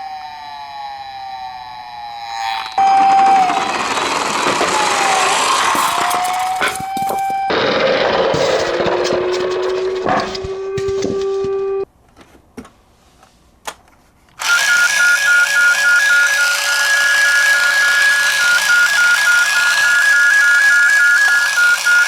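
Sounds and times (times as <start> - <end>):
two-tone ambulance siren: 0.0 - 11.9, 14.4 - 22.0.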